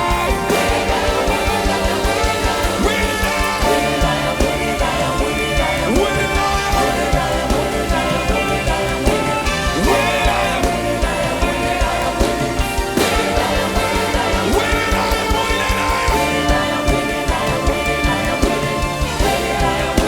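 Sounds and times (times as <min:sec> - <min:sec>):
music with fast drum beat: 0:00.0 - 0:20.0.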